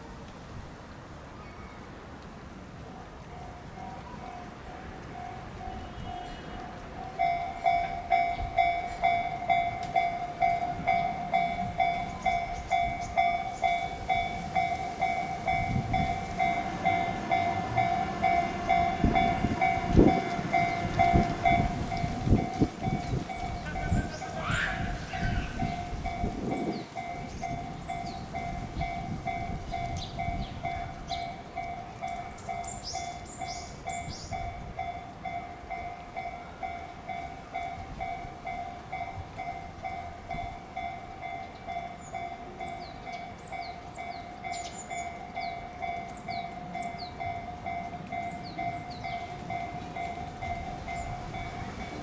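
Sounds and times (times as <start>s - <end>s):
train rumbling over rails: 2.6s - 52.0s
crossing warning bell ringing: 3.3s - 52.0s.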